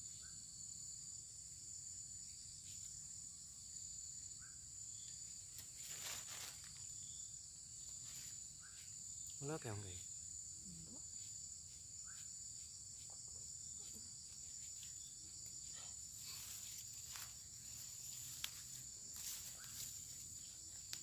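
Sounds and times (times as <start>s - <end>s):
insects shrill drone: 0.0s - 21.0s.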